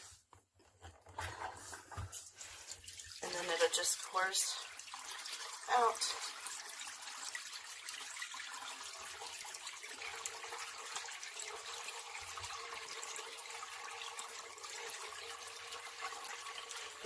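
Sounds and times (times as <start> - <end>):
water draining from hose: 2.0 - 17.0.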